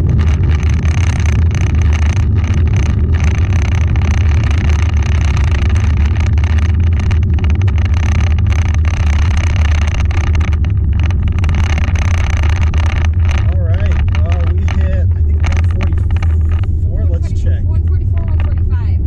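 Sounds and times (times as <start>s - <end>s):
car engine droning: 0.0s - 19.0s
wind and road noise: 0.0s - 19.0s.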